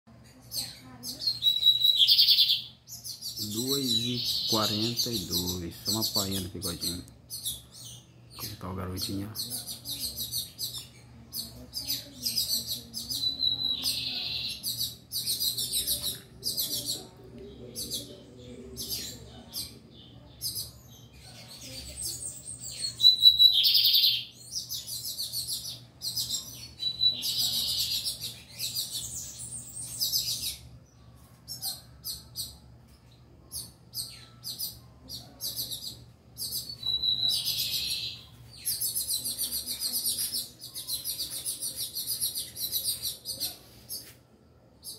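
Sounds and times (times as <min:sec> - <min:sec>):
bird chirping: 0:00.1 - 0:44.9.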